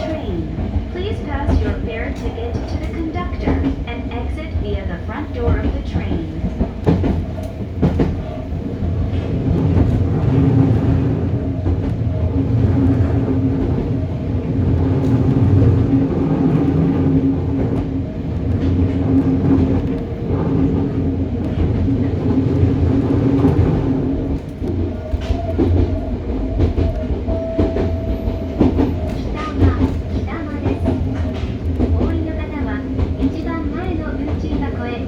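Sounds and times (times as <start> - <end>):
rail-joint clacks: 0.0 - 35.0
train wheels rumbling on rails: 0.0 - 35.0.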